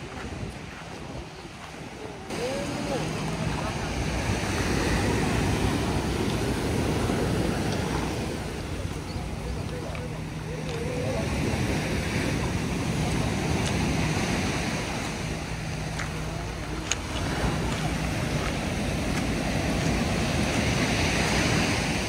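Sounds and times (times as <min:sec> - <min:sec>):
surf washing on shore: 0:00.0 - 0:22.0
wind buffeting microphone: 0:00.0 - 0:22.0.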